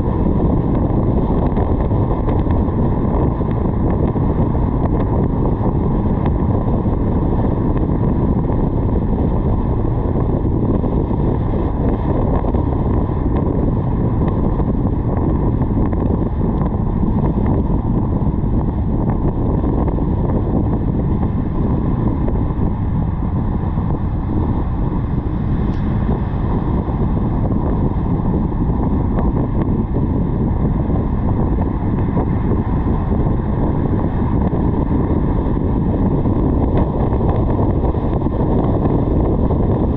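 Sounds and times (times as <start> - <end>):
road noise from moving car: 0.0 - 39.9
wind rushing over microphone: 0.0 - 39.9.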